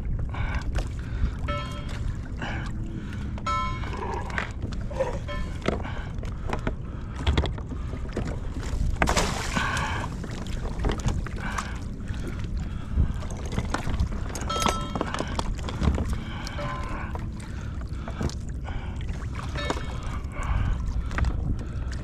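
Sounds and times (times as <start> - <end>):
water sloshing around kayak: 0.0 - 22.0
wind rumbling on microphone: 0.0 - 22.0.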